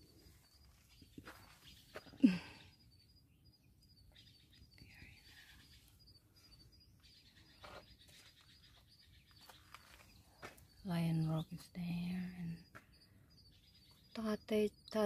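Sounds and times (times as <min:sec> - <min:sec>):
faint high-pitched chirps: 0:00.0 - 0:15.0.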